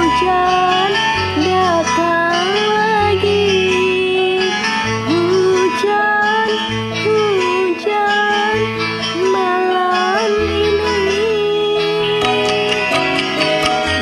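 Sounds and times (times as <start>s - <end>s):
woman singing: 0.0s - 13.5s
karaoke backing track guitar and bass: 0.0s - 14.0s.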